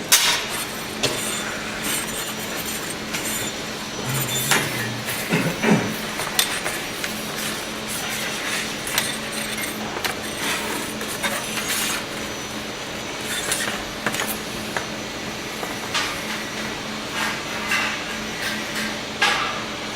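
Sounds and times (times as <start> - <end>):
steady motor hum: 0.0 - 17.3.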